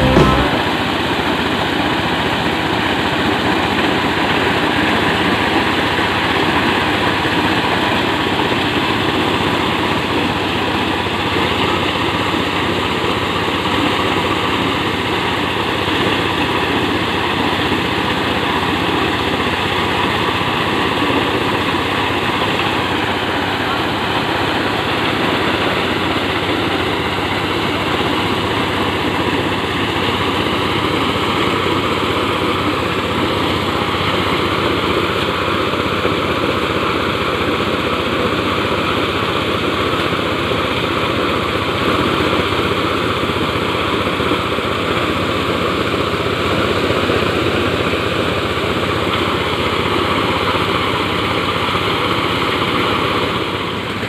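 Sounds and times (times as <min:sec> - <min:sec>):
corn sheller running: 0:00.0 - 0:54.0.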